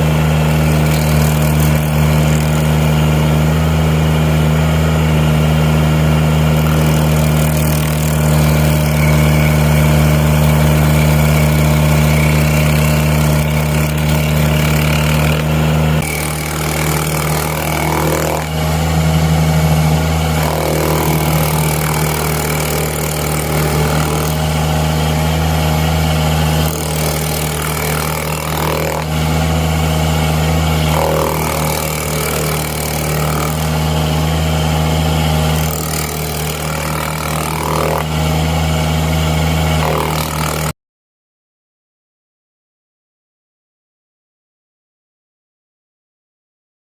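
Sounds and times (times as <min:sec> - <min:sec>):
loader engine running: 0:00.0 - 0:40.7.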